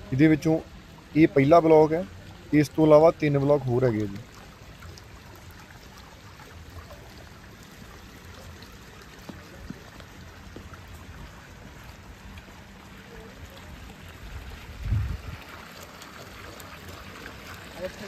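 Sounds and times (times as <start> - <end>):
fountain water trickling and splashing: 0.0 - 18.0.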